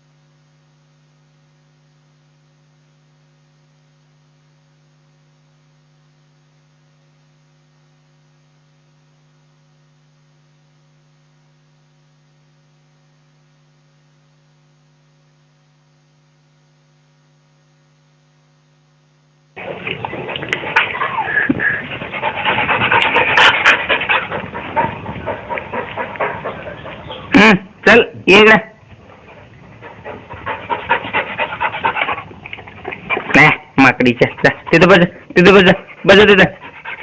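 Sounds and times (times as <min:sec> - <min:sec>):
faint mains hum: 0:00.0 - 0:37.0.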